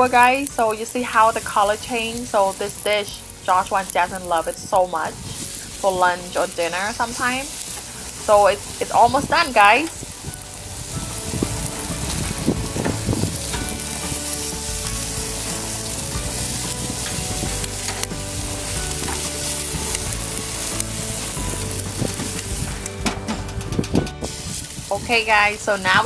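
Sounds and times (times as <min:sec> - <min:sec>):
chicken sizzling on a grill: 0:00.0 - 0:26.0.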